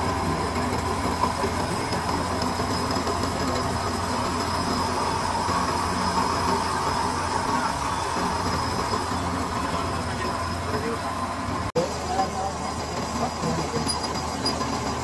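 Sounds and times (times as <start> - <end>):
machine running: 0.0 - 15.0.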